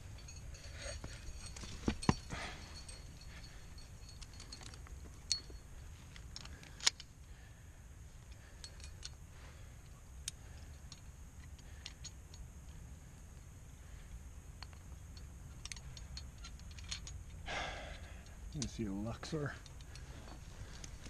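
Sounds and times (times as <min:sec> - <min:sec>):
metal climbing gear clinking: 0:00.0 - 0:21.0.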